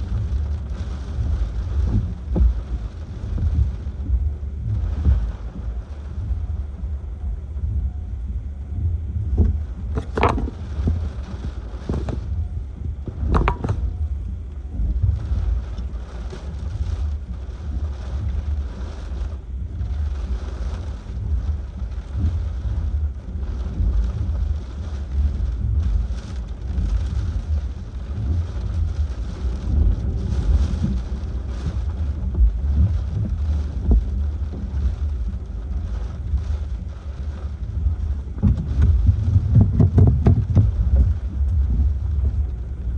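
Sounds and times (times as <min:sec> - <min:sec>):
strong wind buffeting microphone: 0:00.0 - 0:42.9.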